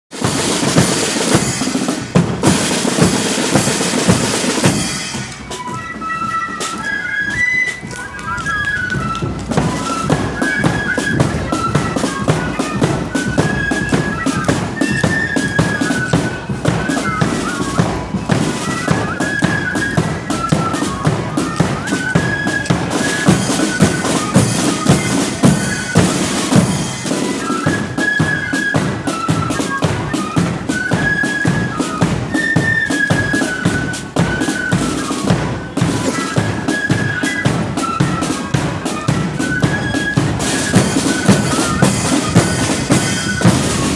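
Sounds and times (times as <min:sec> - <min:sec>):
cymbals: 0:00.1 - 0:43.9
snare drum rolls: 0:00.1 - 0:43.9
flutes playing melody: 0:00.2 - 0:43.9.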